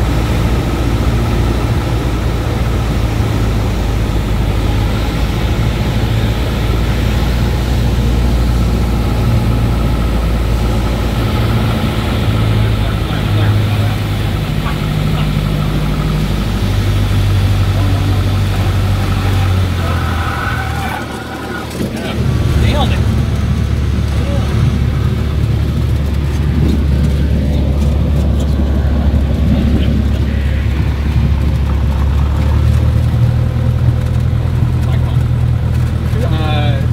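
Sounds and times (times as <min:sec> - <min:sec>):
light aircraft engine drone: 0:00.0 - 0:36.9.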